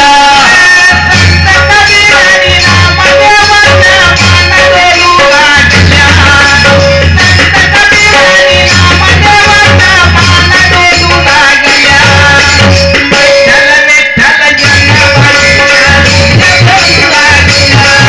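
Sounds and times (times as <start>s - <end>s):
hand drum beat: 0.9s - 18.0s.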